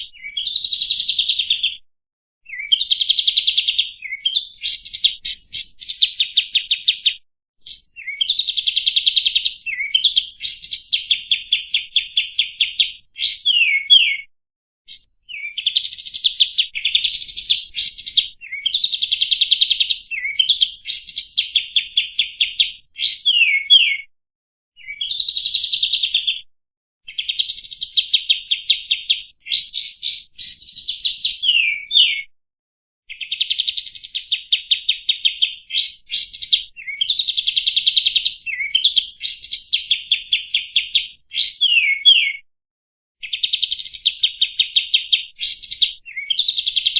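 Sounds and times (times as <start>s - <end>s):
songbird chattering song: 0.0s - 1.8s, 2.5s - 14.2s, 14.9s - 24.0s, 24.8s - 26.4s, 27.1s - 32.2s, 33.1s - 42.4s, 43.2s - 46.9s.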